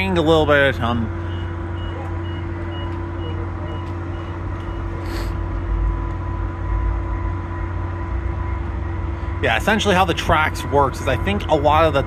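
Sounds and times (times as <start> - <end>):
train engine hum: 0.0 - 12.0.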